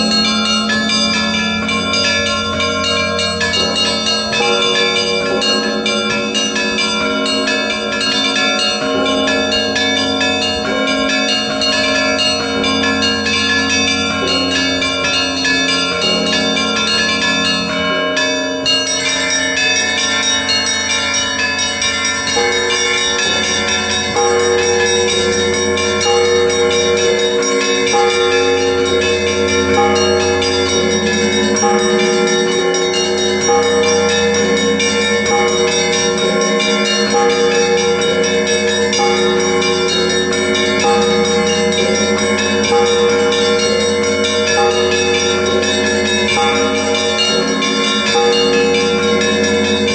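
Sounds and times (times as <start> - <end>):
large bells ringing: 0.0 - 49.9
small bells quick rhythm: 0.0 - 49.9.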